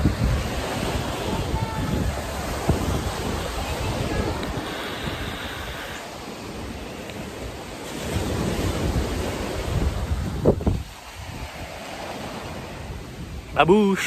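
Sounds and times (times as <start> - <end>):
wind rumbling on microphone: 0.0 - 13.8
surf rushing: 0.0 - 14.0.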